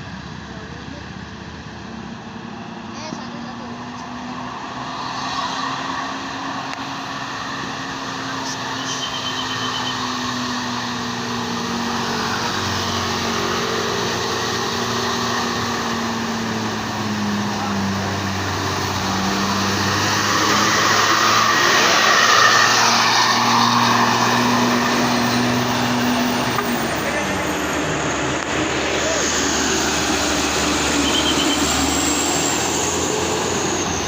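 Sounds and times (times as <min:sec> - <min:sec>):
bus diesel engine: 0:00.0 - 0:34.0.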